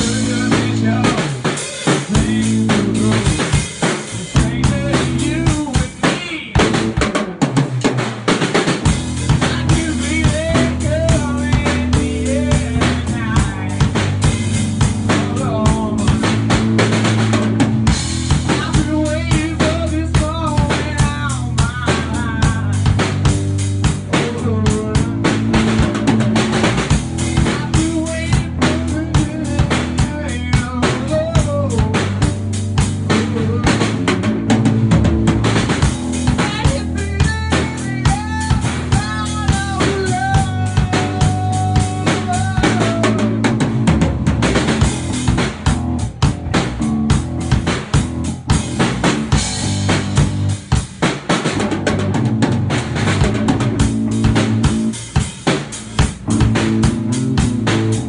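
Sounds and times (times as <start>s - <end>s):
bass guitar low notes: 0.0s - 8.0s, 8.6s - 58.0s
drum kit groove: 0.0s - 58.0s.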